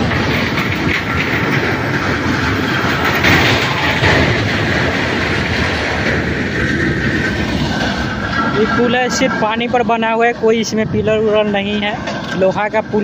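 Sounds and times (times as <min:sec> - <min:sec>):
steel bridge plates rattling: 0:00.0 - 0:13.0.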